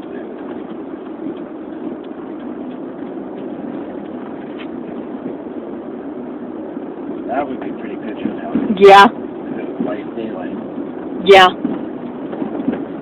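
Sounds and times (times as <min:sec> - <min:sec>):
vehicle running inside cab: 0:00.0 - 0:13.0.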